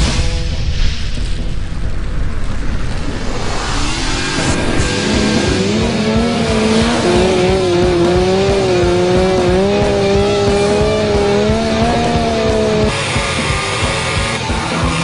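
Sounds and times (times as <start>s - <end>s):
engine noise: 0.0s - 15.0s.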